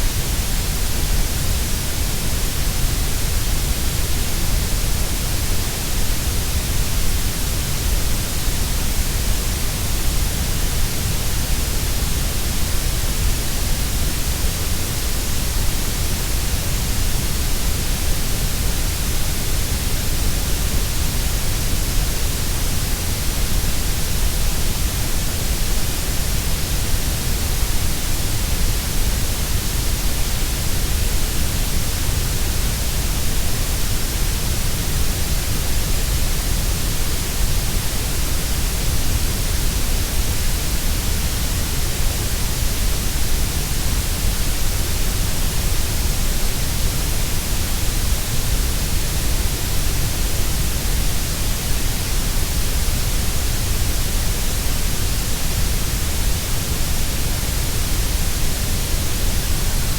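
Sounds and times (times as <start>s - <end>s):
steady grey noise hiss: 0.0s - 59.9s.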